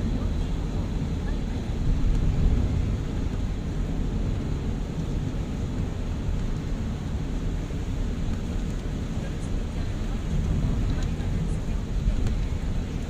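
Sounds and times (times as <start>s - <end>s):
car road noise from inside cabin: 0.0s - 13.0s.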